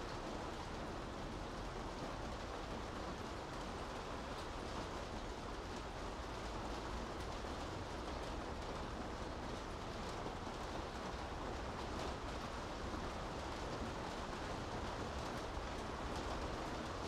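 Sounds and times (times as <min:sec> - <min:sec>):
rain on a street: 0:00.0 - 0:17.0.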